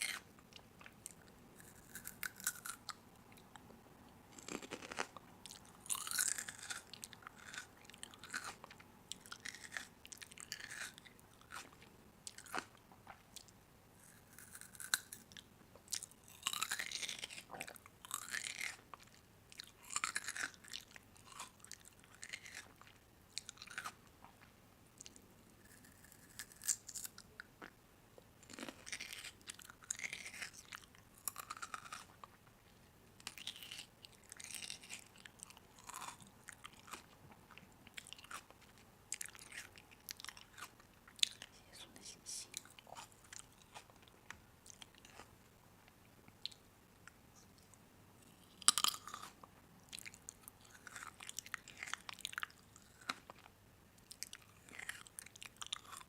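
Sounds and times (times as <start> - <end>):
person chewing crunchy food: 0.0 - 3.6, 4.3 - 27.7, 28.4 - 32.4, 33.2 - 41.8, 42.5 - 45.4, 47.6 - 53.5, 54.1 - 56.0.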